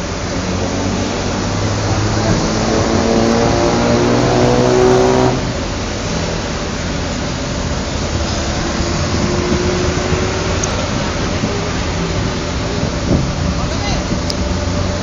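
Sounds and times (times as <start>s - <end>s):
highway traffic noise: 0.0s - 15.0s
pitched drone: 0.0s - 15.0s.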